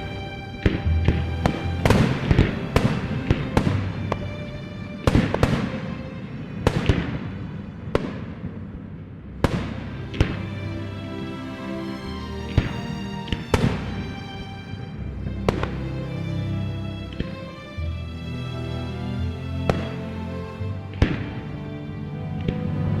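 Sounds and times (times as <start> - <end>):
music with sustained notes: 0.0 - 23.0.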